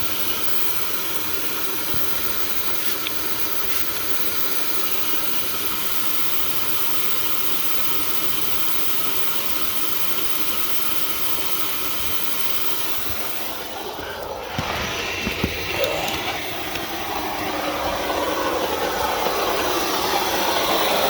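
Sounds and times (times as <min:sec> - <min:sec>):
blower hissing: 0:00.0 - 0:21.0
faint motor whine: 0:00.0 - 0:21.0.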